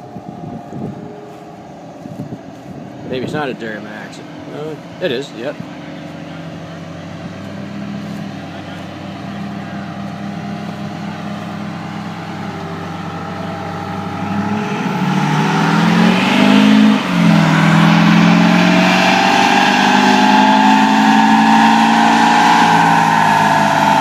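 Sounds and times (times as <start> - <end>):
diesel pickup engine revving: 0.0 - 24.0.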